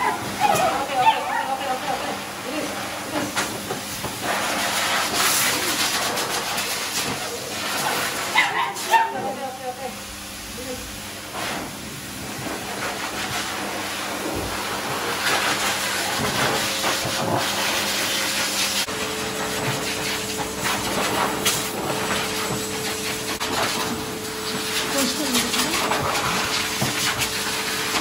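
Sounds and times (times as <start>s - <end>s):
dryer motor hum: 0.0s - 28.0s
dryer air rushing: 2.2s - 8.9s, 10.0s - 28.0s.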